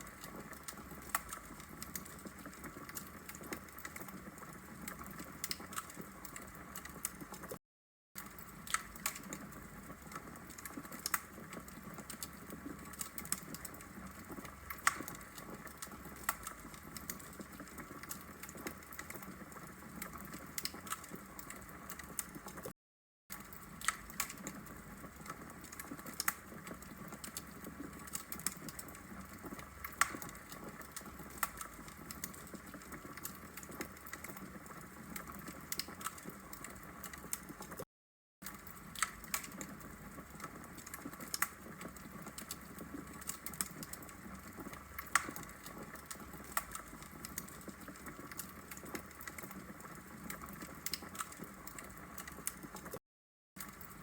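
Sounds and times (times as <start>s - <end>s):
fireplace fire crackling: 0.0s - 7.5s, 8.2s - 22.7s, 23.3s - 37.8s, 38.4s - 53.0s, 53.6s - 54.0s.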